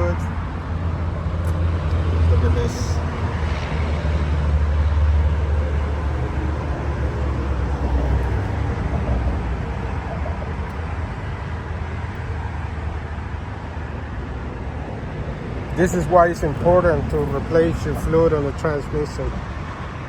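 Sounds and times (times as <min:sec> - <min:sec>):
low rumble of vehicle noise: 0:00.0 - 0:20.0.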